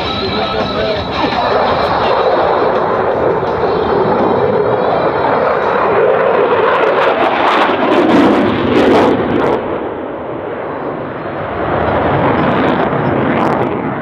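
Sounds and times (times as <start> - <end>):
jet engines passing: 0.0 - 14.0.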